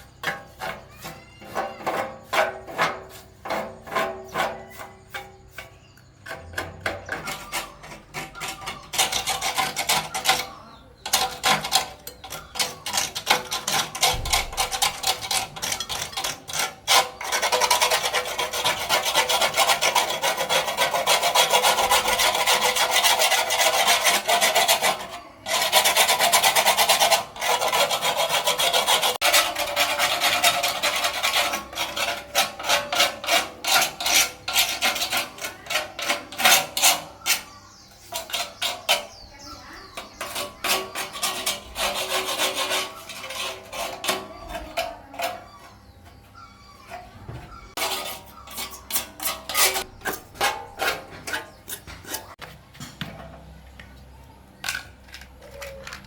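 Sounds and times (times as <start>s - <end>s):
hand abrasive tool rasping: 0.0s - 52.5s.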